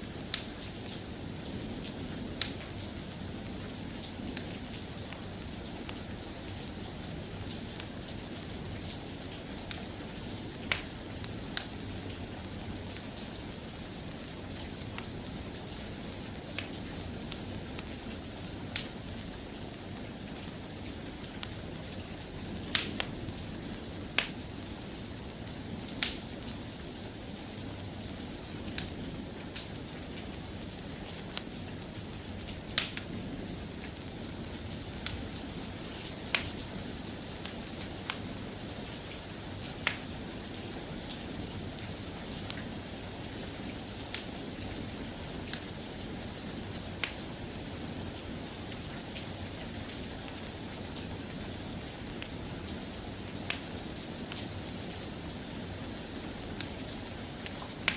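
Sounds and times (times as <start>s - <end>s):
soft steady rain: 0.0s - 57.9s.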